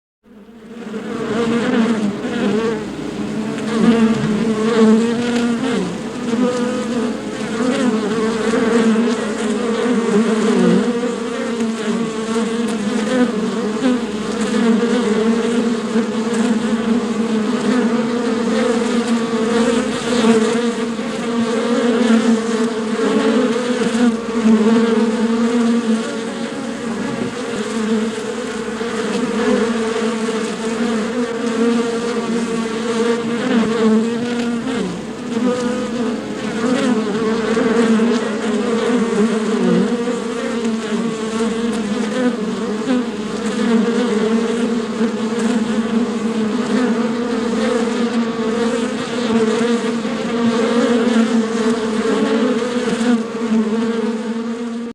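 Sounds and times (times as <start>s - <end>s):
bees buzzing: 0.3s - 54.9s.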